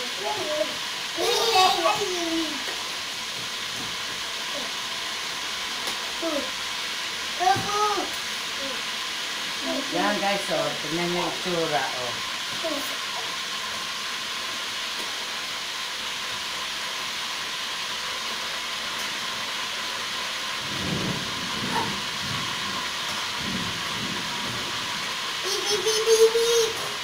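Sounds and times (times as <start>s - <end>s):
oil sizzling: 0.0s - 27.0s.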